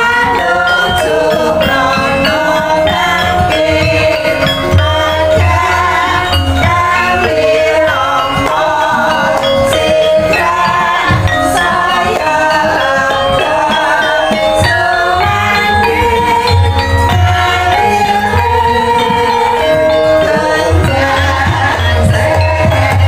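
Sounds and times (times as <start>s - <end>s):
metallophone melody: 0.0s - 23.0s
person singing: 0.0s - 23.0s.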